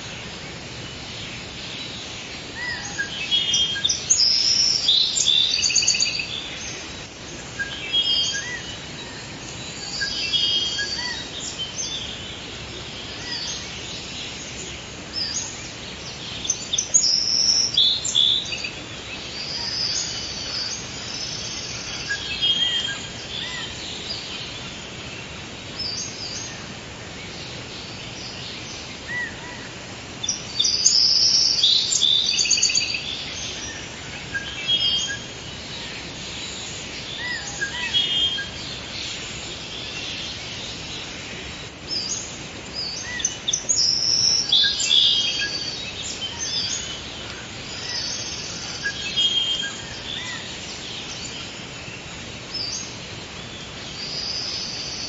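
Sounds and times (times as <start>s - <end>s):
birds chirping and calling: 0.0s - 55.0s
faint steady hiss: 0.0s - 55.0s.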